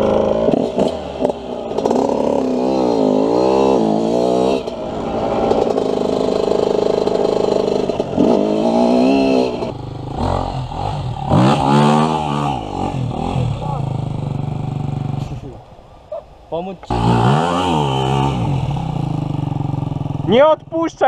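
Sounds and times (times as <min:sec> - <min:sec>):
dirt bike engine revving: 0:00.0 - 0:15.6, 0:16.8 - 0:20.6.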